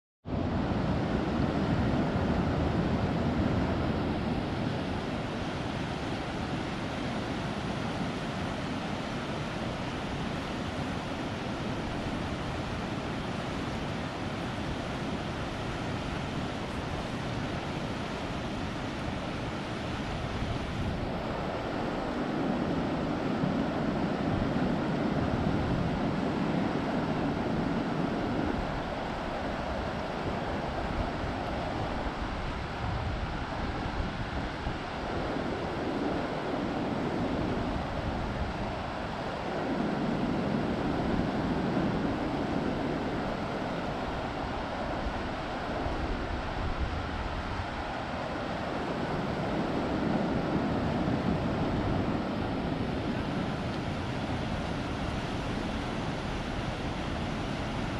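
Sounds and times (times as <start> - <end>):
wind rumble on microphone: 0.2 - 57.9
river rushing: 0.3 - 57.9.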